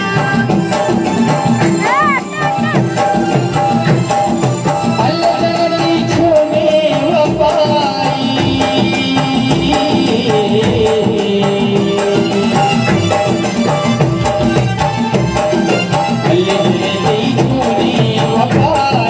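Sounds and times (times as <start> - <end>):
steady beat: 0.0 - 19.0.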